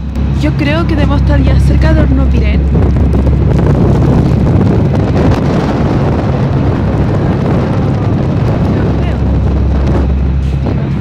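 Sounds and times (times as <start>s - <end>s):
ferry engines humming: 0.0s - 11.0s
strong wind buffeting microphone: 0.0s - 11.0s.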